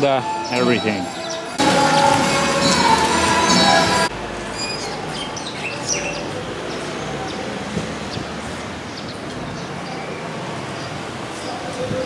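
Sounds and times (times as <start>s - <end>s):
outdoor background noise: 0.0s - 12.0s
small birds chirping: 0.5s - 11.8s.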